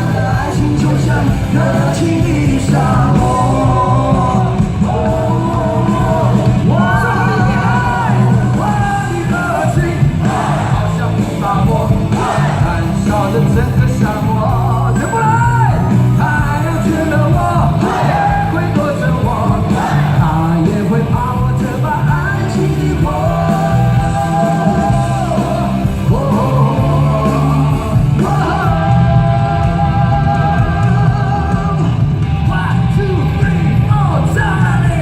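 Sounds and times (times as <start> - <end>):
live rock song: 0.0 - 35.0
man singing: 0.0 - 35.0.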